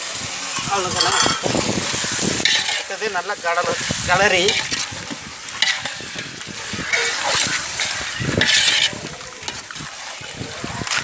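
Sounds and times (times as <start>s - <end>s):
food sizzling in a pot: 0.0s - 11.0s
metal spatula scraping pot: 0.4s - 11.0s.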